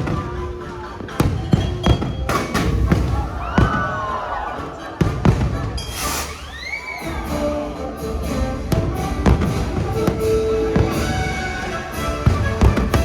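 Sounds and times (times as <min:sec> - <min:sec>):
firework bangs: 0:00.0 - 0:06.4, 0:08.7 - 0:13.0
orchestral music: 0:00.0 - 0:13.0.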